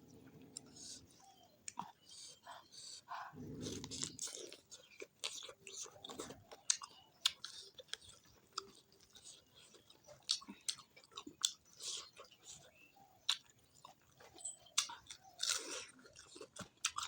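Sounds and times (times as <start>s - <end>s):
person chewing food: 0.3s - 17.0s.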